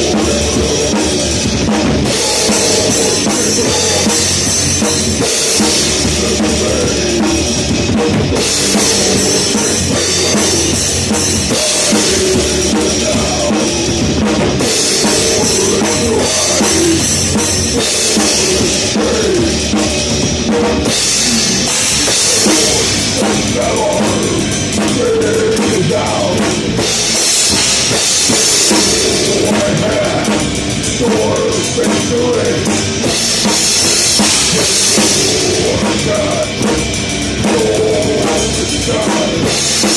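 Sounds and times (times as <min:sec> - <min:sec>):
heavy metal band playing: 0:00.0 - 0:39.9
loud drums: 0:00.0 - 0:39.9.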